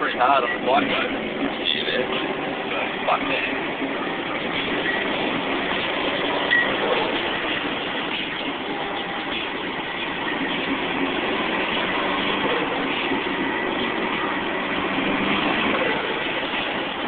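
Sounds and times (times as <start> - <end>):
car engine cruising: 0.0 - 17.0
road noise: 0.0 - 17.0.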